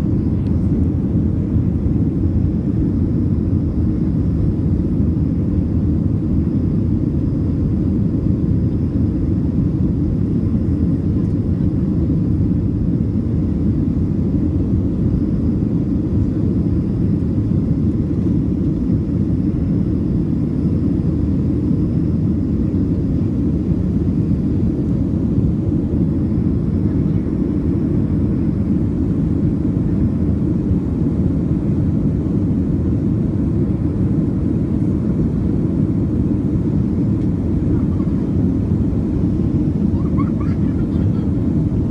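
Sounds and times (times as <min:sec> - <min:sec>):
aircraft cabin drone: 0:00.0 - 0:41.9.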